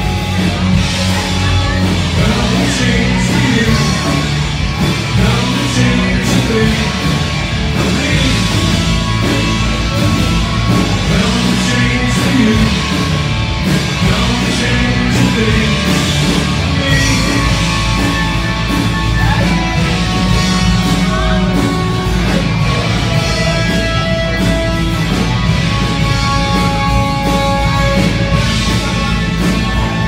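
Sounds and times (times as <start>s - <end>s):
rock band playing live: 0.0s - 30.0s.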